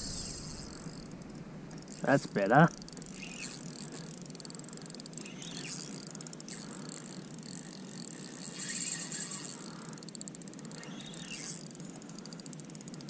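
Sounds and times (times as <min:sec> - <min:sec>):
fishing reel ticking whirr: 0:00.0 - 0:13.0.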